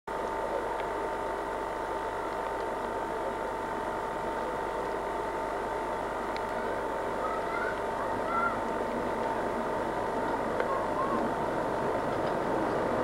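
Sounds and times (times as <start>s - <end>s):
diesel locomotive engine running: 0.1s - 13.0s.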